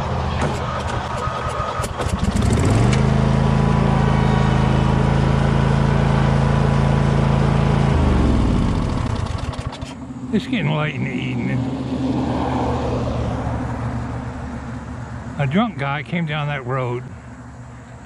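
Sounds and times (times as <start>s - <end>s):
lawn mower engine running: 0.0s - 11.4s, 13.5s - 18.0s.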